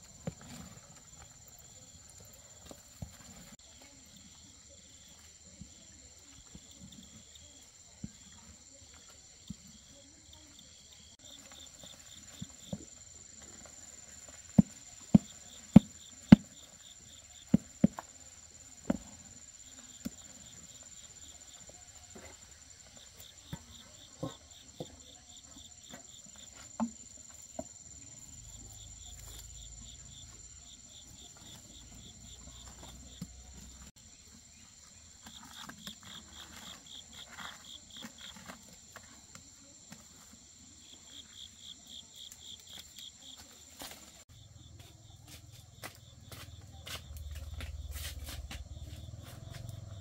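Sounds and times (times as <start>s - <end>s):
crickets chirping: 0.0s - 50.0s.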